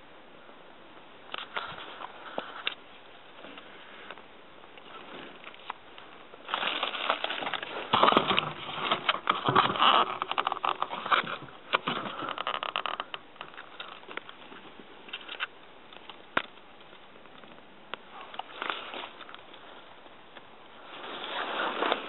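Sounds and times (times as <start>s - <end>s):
rustling and crackling: 0.9s - 22.0s.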